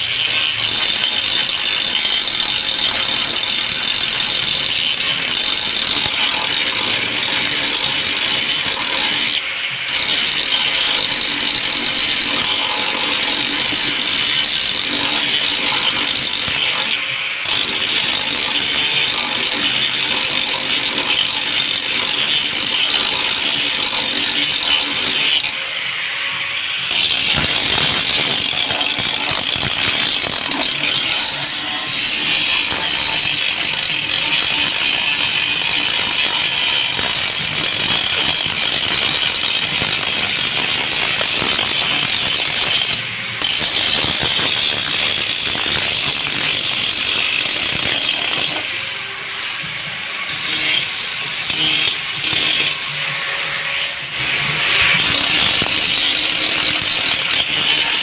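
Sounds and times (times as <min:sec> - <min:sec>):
tool scraping and ratcheting: 0:00.0 - 0:58.0.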